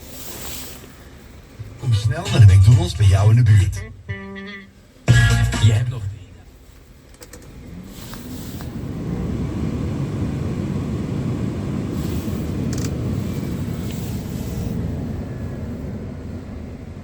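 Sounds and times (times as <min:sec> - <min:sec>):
truck engine rumbling: 0:00.8 - 0:17.0.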